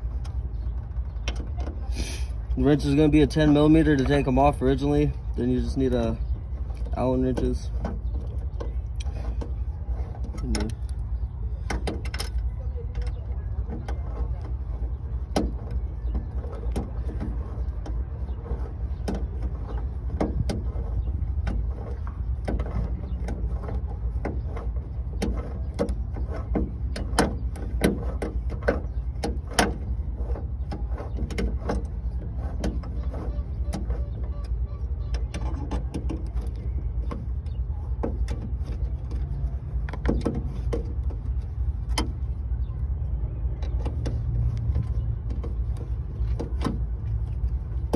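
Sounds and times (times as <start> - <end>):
steady low rumble: 0.0 - 47.9.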